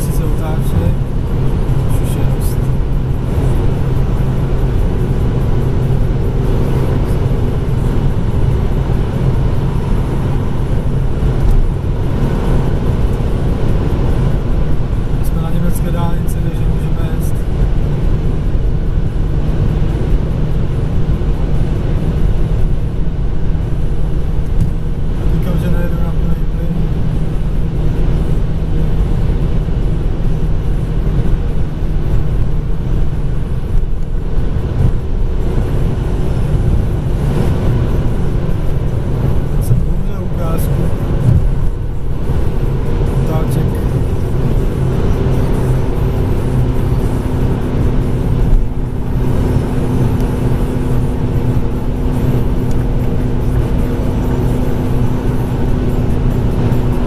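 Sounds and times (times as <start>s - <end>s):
car engine drone: 0.0s - 57.0s
road and wind noise: 0.0s - 57.0s.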